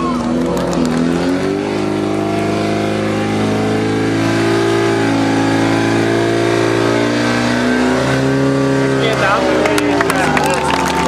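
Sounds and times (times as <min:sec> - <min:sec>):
pump engine running at high revs: 0:00.0 - 0:11.0.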